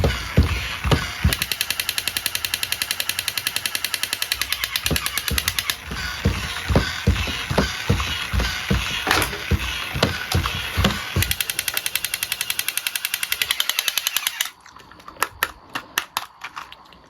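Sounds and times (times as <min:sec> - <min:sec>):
rapid clicking and rattling: 0:00.0 - 0:14.6.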